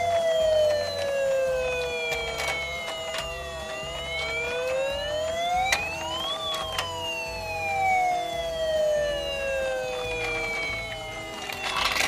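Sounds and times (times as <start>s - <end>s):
toy siren wailing: 0.0s - 12.0s.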